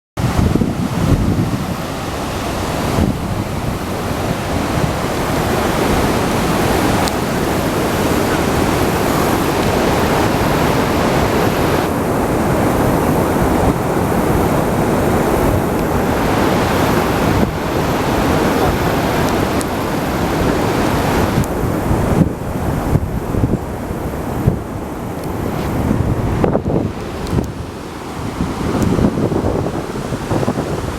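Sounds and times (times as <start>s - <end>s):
waterfall rushing: 0.2s - 30.9s
wind buffeting microphone: 0.2s - 30.9s.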